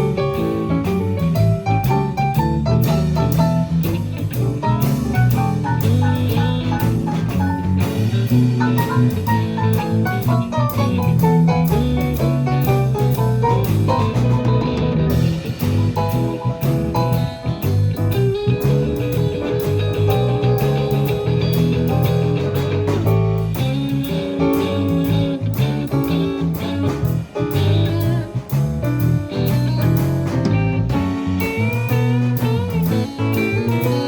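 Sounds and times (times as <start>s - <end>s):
bass guitar: 0.0s - 34.0s
electric guitar melody: 0.0s - 34.0s
piano: 0.0s - 34.0s
steady drum beat: 0.0s - 34.0s.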